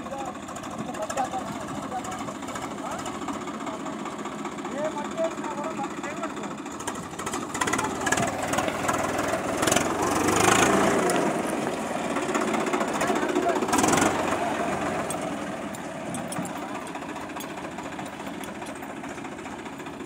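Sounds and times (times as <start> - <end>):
diesel tractor engine clattering: 0.0 - 20.0.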